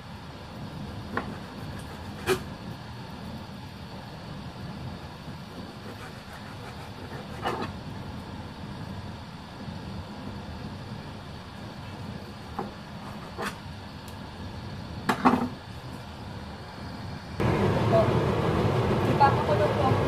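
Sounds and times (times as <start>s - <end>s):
gas burner rumbling: 0.0s - 20.0s.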